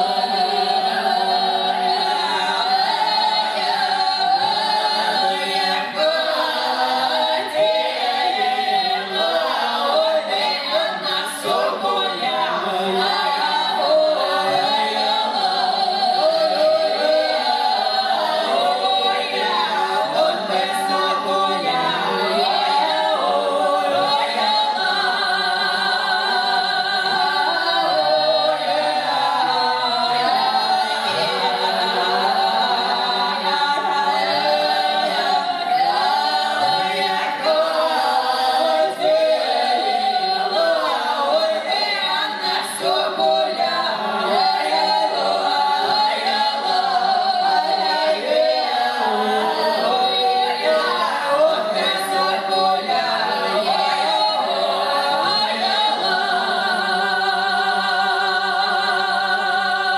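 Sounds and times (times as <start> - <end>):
folk choir singing a cappella: 0.0 - 59.9.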